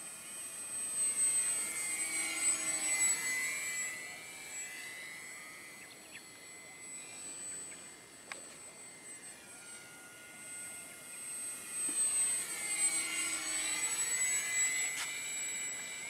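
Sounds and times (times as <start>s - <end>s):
electric motor and propeller whining: 0.0s - 16.0s.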